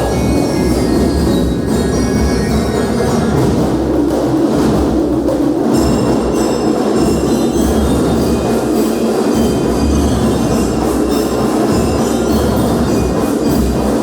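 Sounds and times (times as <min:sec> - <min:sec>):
high ringing notes: 0:00.0 - 0:04.0, 0:05.6 - 0:14.0
marching band drum cadence: 0:00.0 - 0:14.0.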